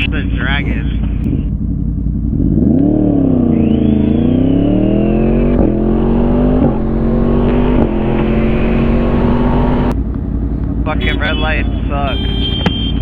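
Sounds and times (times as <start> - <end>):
wind rumble: 0.0 - 11.0
motorcycle engine revving: 0.0 - 13.0.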